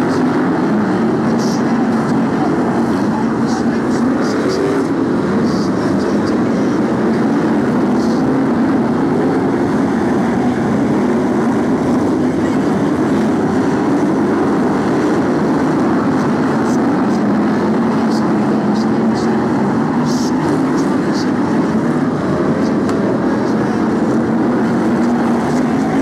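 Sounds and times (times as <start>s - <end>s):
racing car engines droning: 0.0s - 26.0s.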